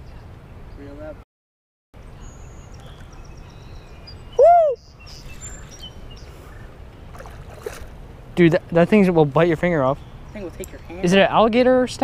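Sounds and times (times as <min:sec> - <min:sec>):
low outdoor hiss: 0:02.0 - 0:12.0.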